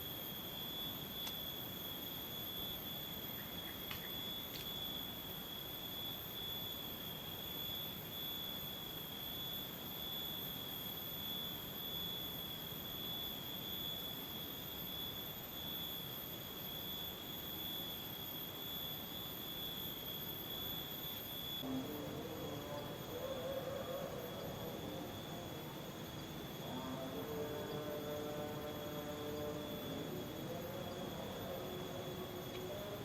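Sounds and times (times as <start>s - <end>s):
shrill insect drone: 0.0s - 33.0s.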